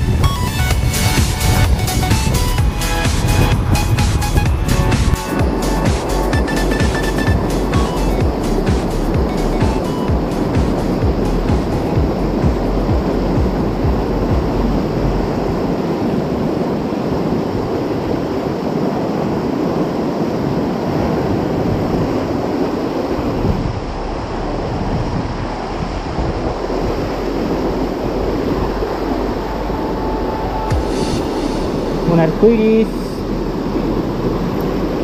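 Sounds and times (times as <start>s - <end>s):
river rushing over rocks: 0.0s - 35.0s
wind buffeting microphone: 0.0s - 35.0s.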